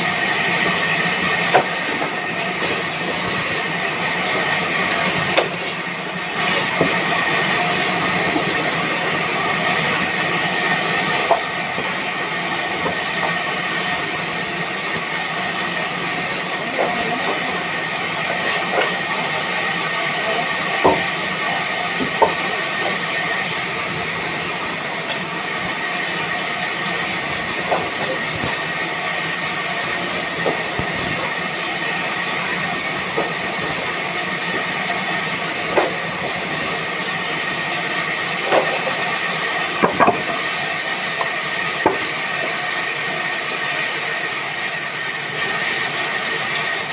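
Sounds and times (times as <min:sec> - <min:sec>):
woodworking machinery hissing: 0:00.0 - 0:46.9.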